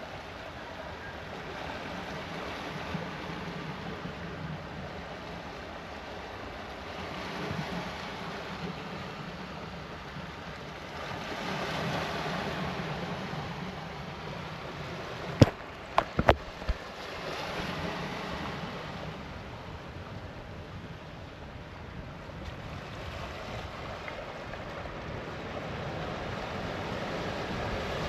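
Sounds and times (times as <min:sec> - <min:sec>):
sea waves washing in: 0:00.0 - 0:28.0
wind: 0:00.0 - 0:28.0.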